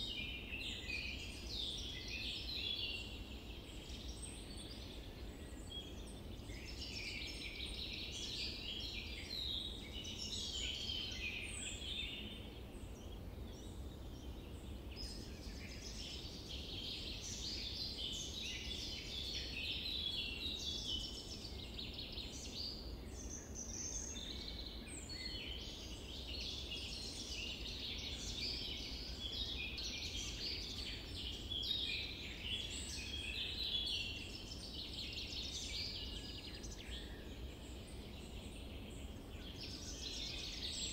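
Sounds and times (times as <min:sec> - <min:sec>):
chorus of birds chirping: 0:00.0 - 0:40.9.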